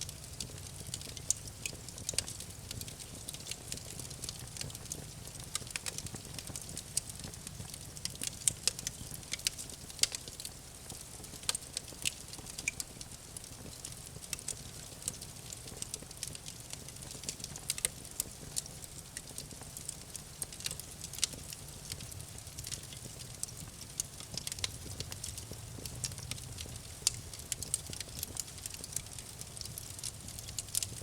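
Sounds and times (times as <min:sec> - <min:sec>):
low rumble of flames: 0:00.0 - 0:31.0
wood crackling and popping: 0:00.0 - 0:31.0.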